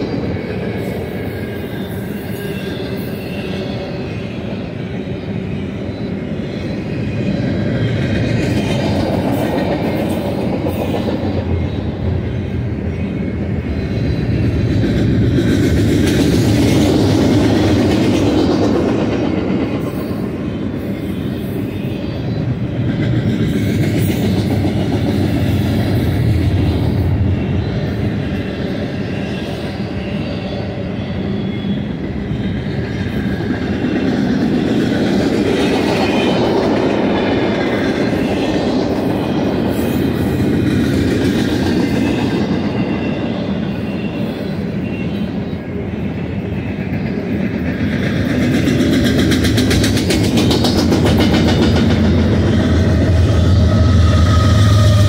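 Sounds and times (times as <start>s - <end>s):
high wheel squeal: 0.0s - 55.0s
train wheels rumbling on rails: 0.0s - 55.0s.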